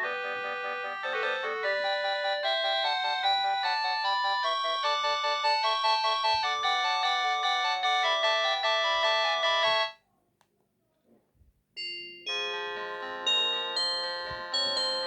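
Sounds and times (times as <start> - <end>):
chime-like ringtone tune: 0.0 - 10.0, 11.8 - 15.0
electronic ringtone melody: 0.0 - 10.0, 12.2 - 15.0.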